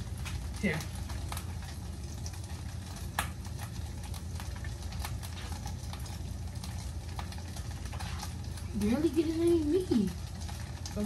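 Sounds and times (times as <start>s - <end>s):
tofu sizzling in a pan: 0.0s - 11.0s.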